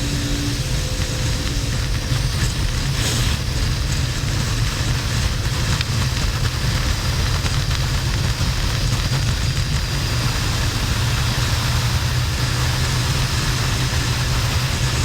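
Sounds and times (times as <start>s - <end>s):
motorcycle engine rumbling: 0.0s - 15.0s
wind and road noise: 0.0s - 15.0s.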